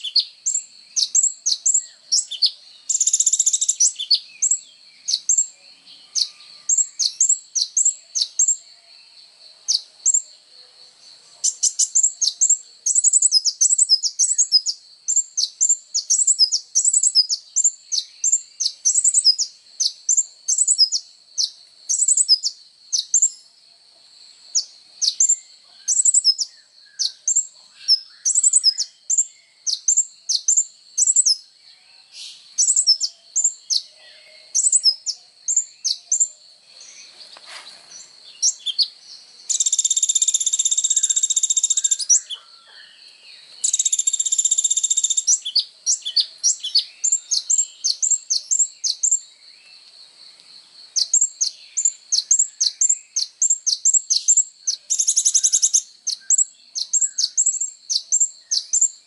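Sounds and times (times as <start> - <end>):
sunbird chirping: 0.0 - 59.0.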